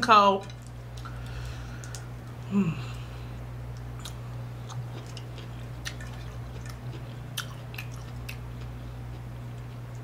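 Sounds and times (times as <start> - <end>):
low hum: 0.0 - 10.0
chewing crunchy food: 0.6 - 10.0.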